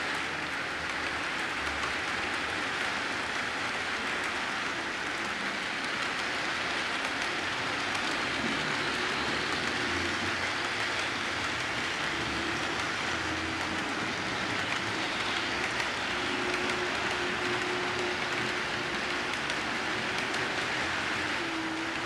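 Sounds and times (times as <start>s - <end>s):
model train wheels rolling: 0.0s - 22.0s.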